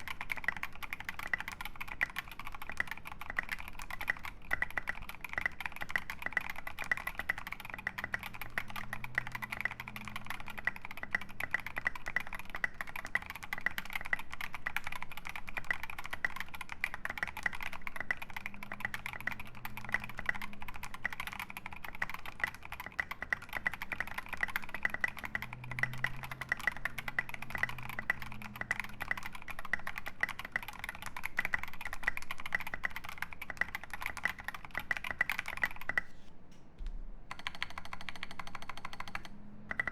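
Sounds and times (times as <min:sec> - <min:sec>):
fast mechanical keyboard typing: 0:00.0 - 0:36.2, 0:37.3 - 0:39.9.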